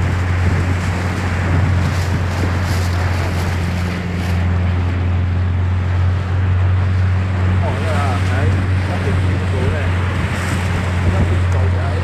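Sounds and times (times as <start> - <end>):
choppy waves: 0.0 - 12.0
motorboat engine running: 0.0 - 12.0
wind on microphone: 0.0 - 12.0.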